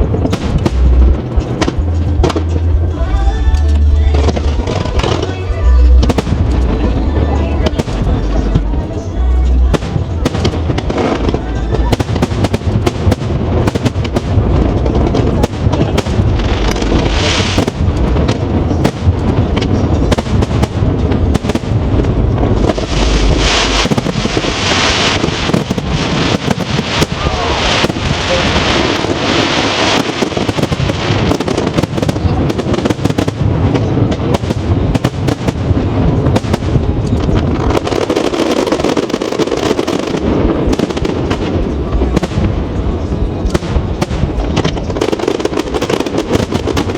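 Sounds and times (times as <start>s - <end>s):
crackling firework shells: 0.0s - 46.9s
fireworks booming: 0.0s - 46.9s.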